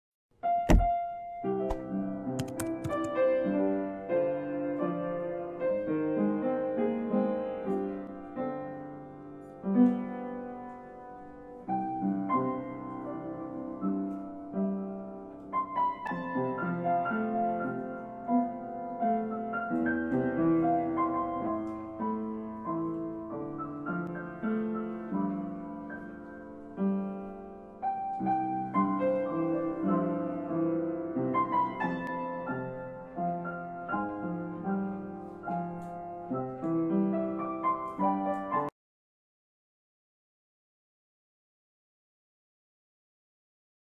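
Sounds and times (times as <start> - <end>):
slow piano music: 0.4 - 38.8.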